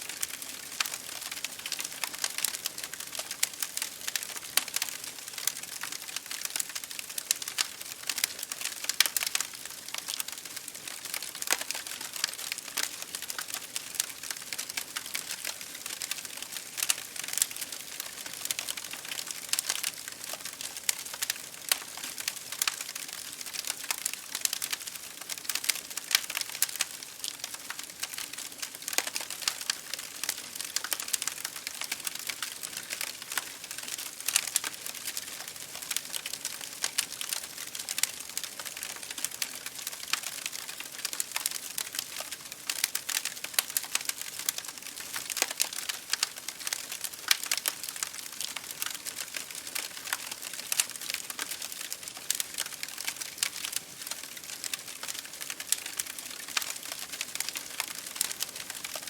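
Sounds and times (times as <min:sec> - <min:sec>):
rain pattering on window glass: 0:00.0 - 0:59.0
wood fire crackling: 0:00.0 - 0:59.0.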